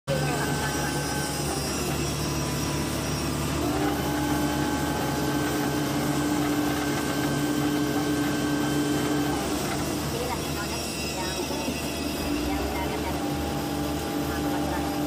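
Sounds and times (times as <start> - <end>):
heavy diesel engine revving: 0.1 - 15.0.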